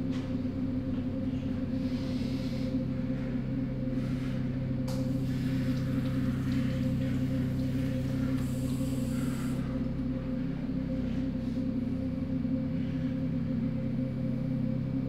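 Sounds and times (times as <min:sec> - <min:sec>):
low ambient drone: 0:00.0 - 0:15.0.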